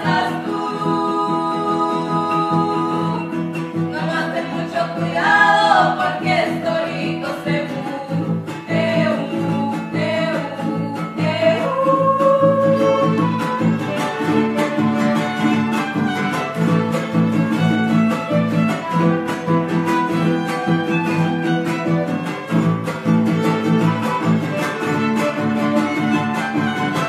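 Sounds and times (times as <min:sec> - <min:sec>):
strummed guitars: 0:00.0 - 0:27.0
violin melody: 0:00.0 - 0:27.0.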